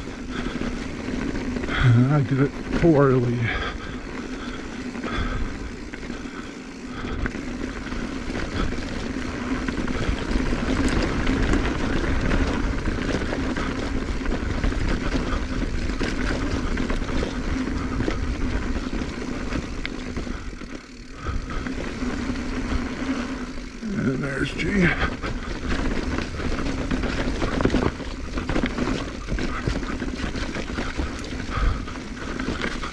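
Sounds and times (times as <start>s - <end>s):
bike rattles and knocks: 0.0s - 32.9s
mountain bike rolling rumble: 0.0s - 32.9s.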